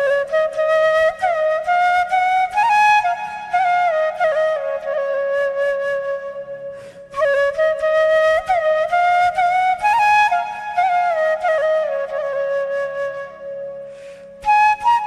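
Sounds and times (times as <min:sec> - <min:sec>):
flute melody: 0:00.0 - 0:15.0.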